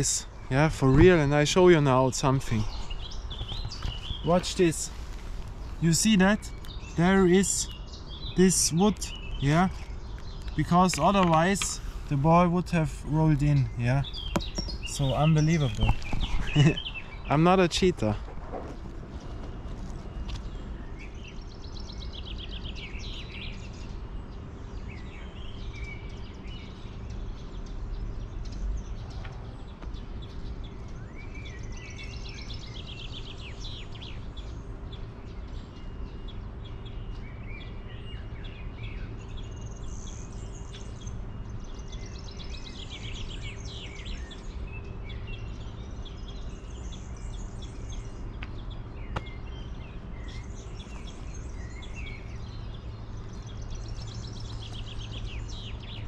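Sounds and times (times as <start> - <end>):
songbirds singing: 0.0 - 56.0
steady background rumble: 0.0 - 56.0.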